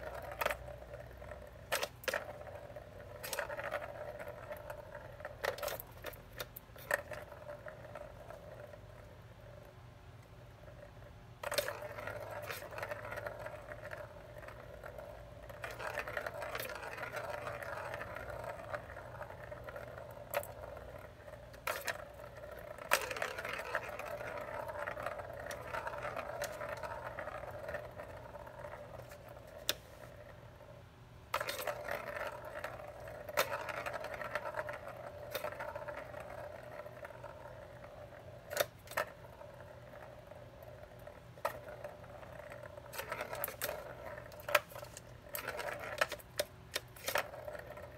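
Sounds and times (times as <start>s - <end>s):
balls clicking: 0.0s - 47.9s
plastic balls rolling on track: 0.0s - 47.9s.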